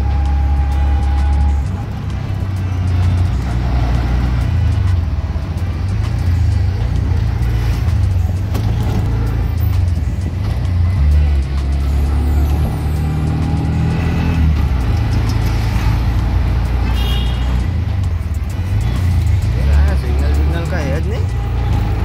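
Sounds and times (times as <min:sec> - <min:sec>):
car engine and road drone: 0:00.0 - 0:22.0
music playing: 0:00.0 - 0:22.0.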